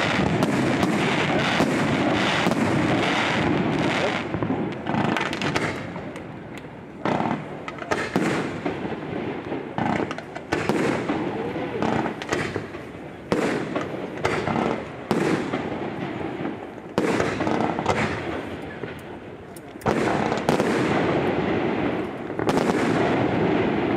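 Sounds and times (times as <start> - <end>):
fireworks bangs: 0.0 - 23.9
fireworks crackling: 0.0 - 23.9.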